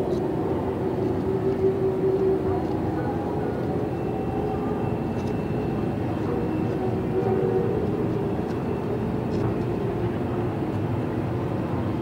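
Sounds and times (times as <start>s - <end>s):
dense steady rumble: 0.0s - 12.0s.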